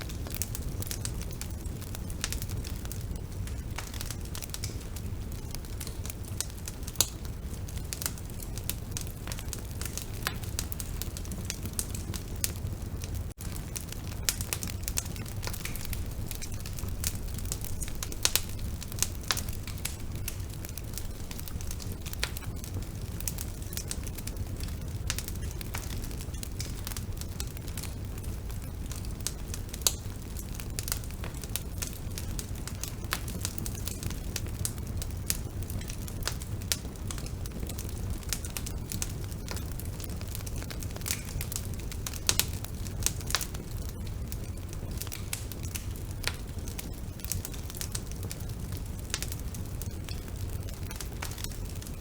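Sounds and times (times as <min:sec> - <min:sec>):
burning wood crackling and popping: 0:00.0 - 0:52.0
low rumble of flames: 0:00.0 - 0:52.0.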